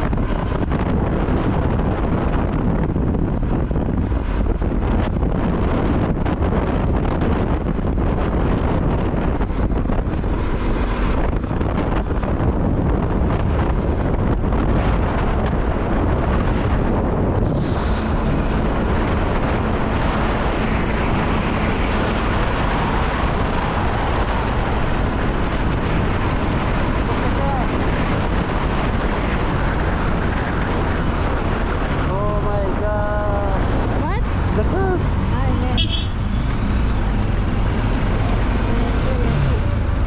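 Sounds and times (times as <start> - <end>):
vehicle road and engine noise: 0.0 - 40.0
wind on microphone: 0.0 - 40.0.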